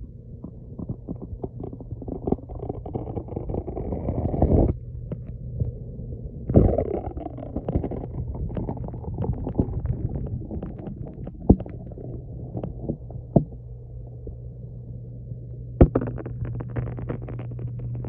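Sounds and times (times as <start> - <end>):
steady low hum: 0.0 - 18.0
underwater churning rumble: 0.0 - 18.0.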